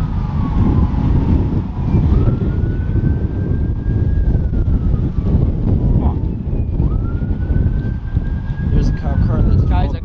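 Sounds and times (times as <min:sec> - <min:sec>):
heavy low rumble: 0:00.0 - 0:10.0
police siren wailing: 0:00.0 - 0:10.0.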